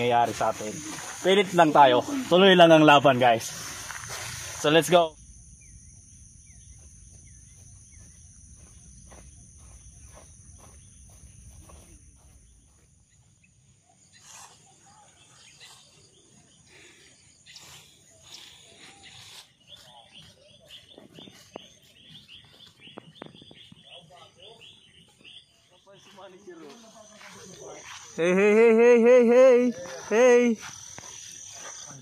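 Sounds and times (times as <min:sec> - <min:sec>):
high-pitched insect drone: 0:00.0 - 0:32.0
rapid repeated chirps: 0:00.0 - 0:32.0.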